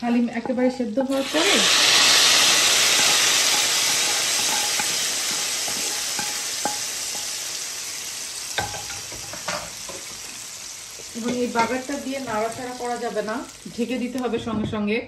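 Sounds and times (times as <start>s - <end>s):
hot oil sizzling in a pot: 0.0s - 14.5s.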